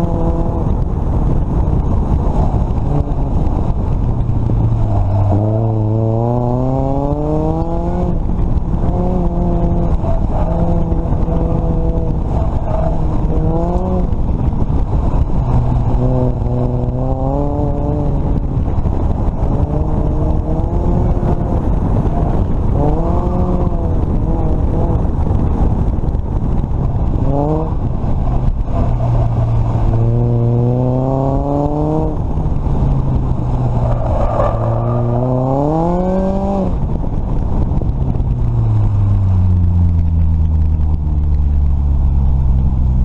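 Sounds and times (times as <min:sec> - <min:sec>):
car engine revving: 0:00.0 - 0:43.0
wind and road noise: 0:00.0 - 0:43.0.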